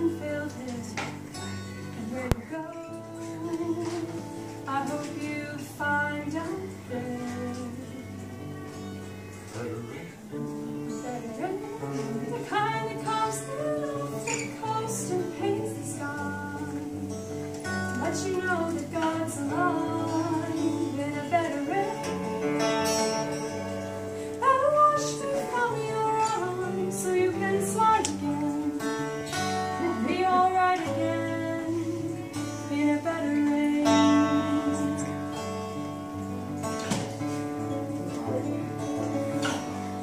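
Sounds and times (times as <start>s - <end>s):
young woman singing: 0.0s - 9.0s, 10.7s - 36.5s, 37.5s - 40.0s
acoustic guitar strumming: 0.0s - 40.0s.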